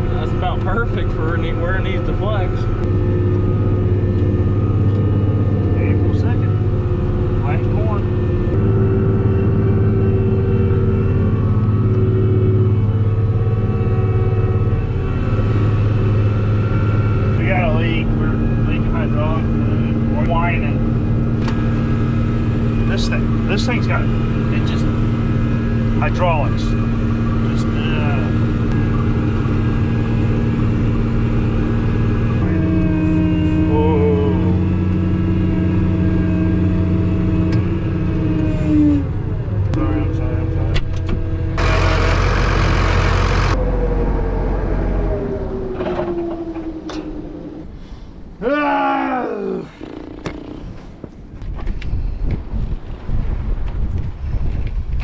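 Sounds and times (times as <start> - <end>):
tractor engine running: 0.0 - 48.3
hydraulic whine: 0.0 - 48.4.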